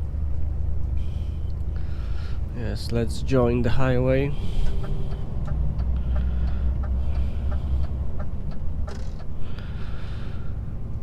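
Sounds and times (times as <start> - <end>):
road noise inside cab: 0.0 - 11.0
truck engine drone: 0.0 - 11.0.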